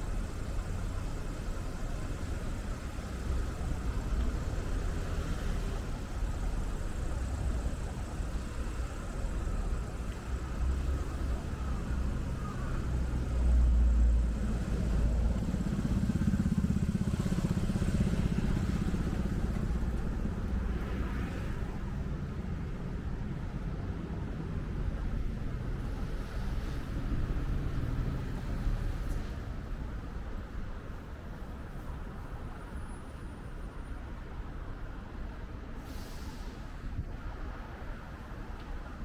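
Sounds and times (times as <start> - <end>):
city street traffic: 0.0 - 39.0.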